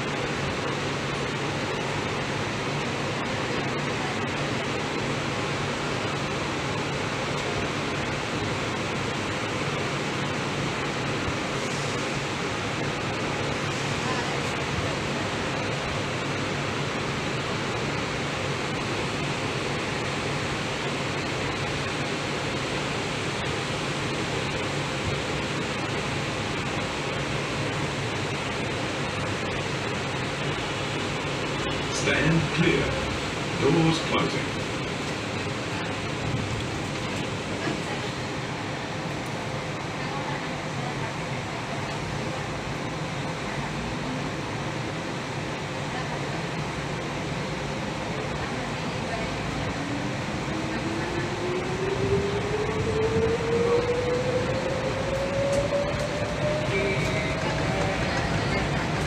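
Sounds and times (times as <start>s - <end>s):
ventilation rushing and humming: 0.0s - 59.0s.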